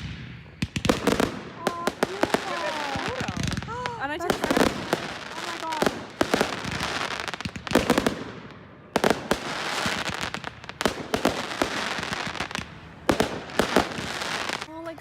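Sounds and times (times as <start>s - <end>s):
fireworks bangs: 0.0s - 14.9s
fireworks crackling fizz: 0.0s - 15.0s.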